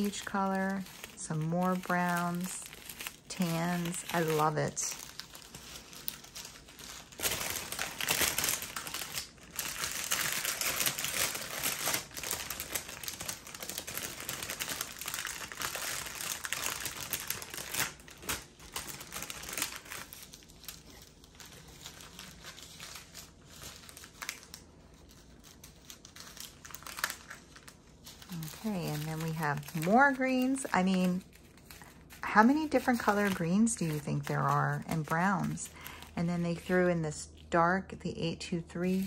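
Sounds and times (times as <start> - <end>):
plastic bags crinkling: 0.0 - 36.8.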